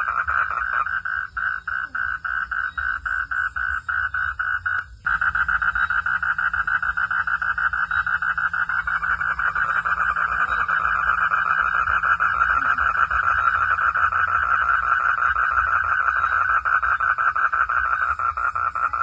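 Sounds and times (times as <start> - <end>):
frogs calling in rapid pulses: 0.0 - 19.0.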